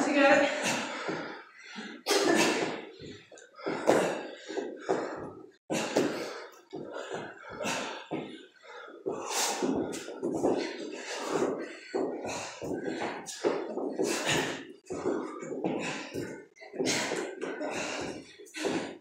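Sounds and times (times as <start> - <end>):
people breathing hard: 0.3 - 19.0.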